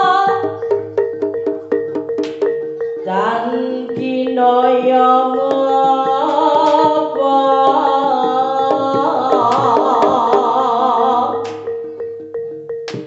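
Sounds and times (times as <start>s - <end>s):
hand drum strokes: 0.0s - 13.0s
steady held tone: 0.0s - 13.0s
wavering gamelan melody: 0.0s - 13.0s.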